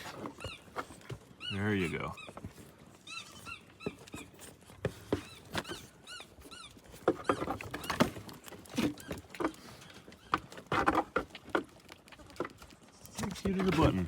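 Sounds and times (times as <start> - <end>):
goat kids chirping: 0.0 - 14.0
knocks and scuffling: 0.0 - 14.0.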